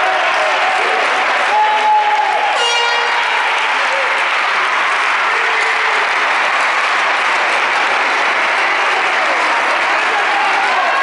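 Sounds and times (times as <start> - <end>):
faint voices: 0.0 - 11.0
spectators applauding: 0.0 - 11.0.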